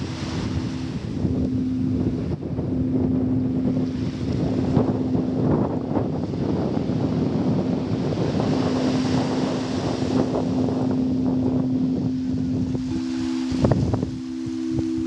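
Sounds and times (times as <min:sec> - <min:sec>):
higher singing bowl tone: 0:00.0 - 0:15.0
singing bowls low tone: 0:00.0 - 0:15.0
surf: 0:00.0 - 0:15.0
wind buffeting the microphone: 0:00.0 - 0:15.0.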